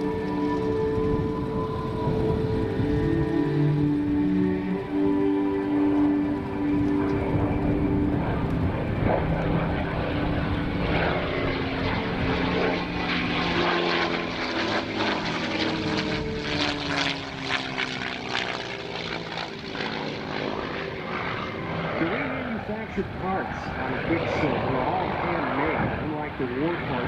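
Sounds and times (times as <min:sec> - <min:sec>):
propeller plane engine flying by: 0:00.0 - 0:27.0.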